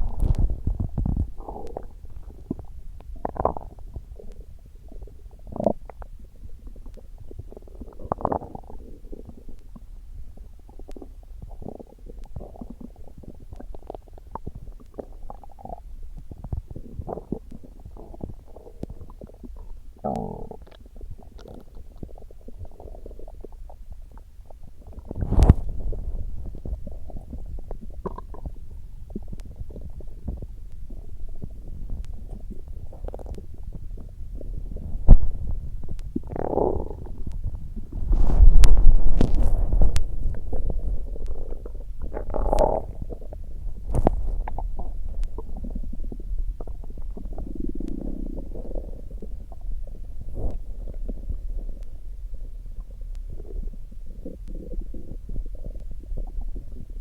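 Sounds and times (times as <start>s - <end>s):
stomach growling: 0.0s - 57.0s.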